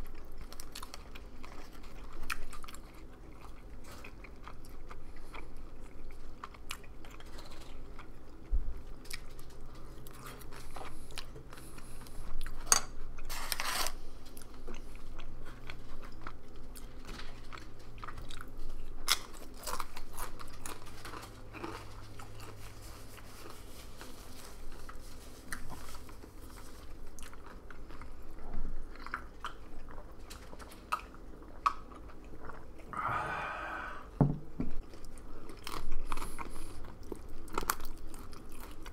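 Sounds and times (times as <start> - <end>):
chewing and biting food: 0.0 - 32.9, 34.8 - 38.9
faint low hum: 0.0 - 38.9.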